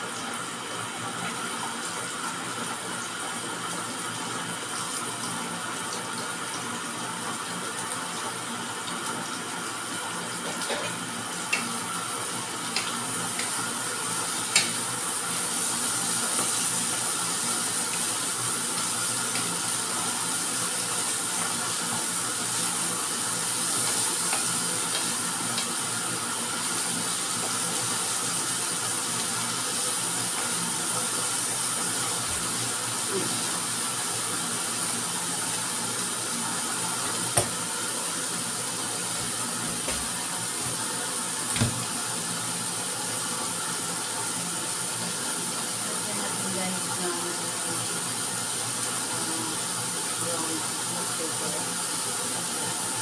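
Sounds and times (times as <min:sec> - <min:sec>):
food sizzling in frying pan: 0:00.0 - 0:53.0.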